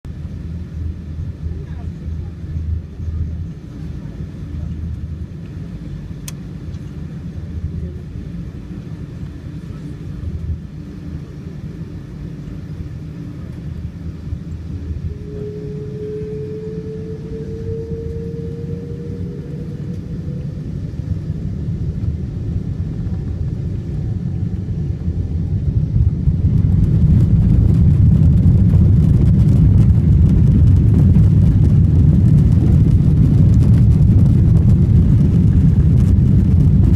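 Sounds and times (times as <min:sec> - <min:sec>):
jet engine rumble: 0:00.0 - 0:36.9
faint rising whine: 0:00.1 - 0:36.9.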